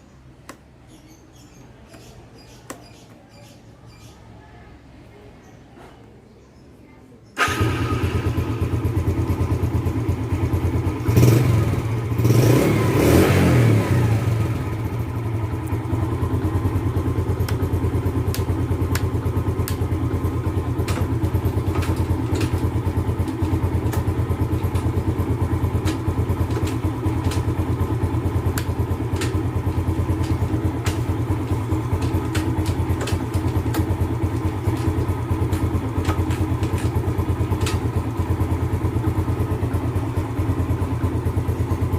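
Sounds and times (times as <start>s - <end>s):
motorcycle engine revving and idling: 7.4s - 41.9s.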